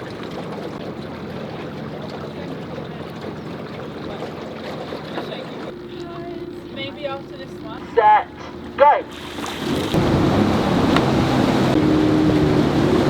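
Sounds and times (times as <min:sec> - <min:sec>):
motorboat engine running: 0:00.0 - 0:13.0
water rushing past hull: 0:00.0 - 0:13.0.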